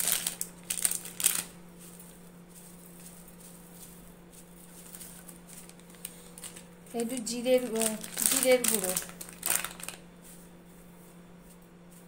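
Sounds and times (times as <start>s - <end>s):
spoon clicks and rustles: 0.0s - 10.1s
faint steady hum: 0.0s - 12.0s.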